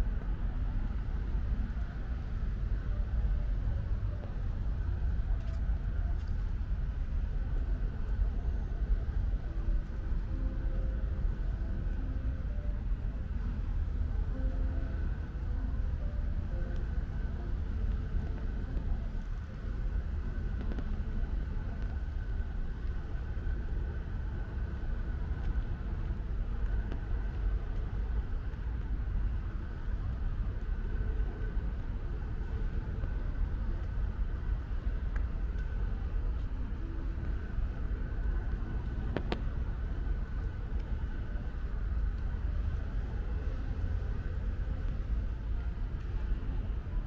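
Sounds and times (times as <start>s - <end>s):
low rumble of road traffic: 0.0s - 47.0s.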